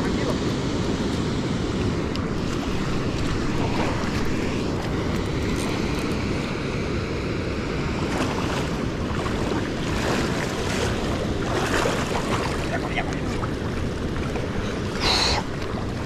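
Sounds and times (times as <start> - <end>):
river current rushing: 0.0 - 16.0
wind buffeting microphone: 0.0 - 16.0.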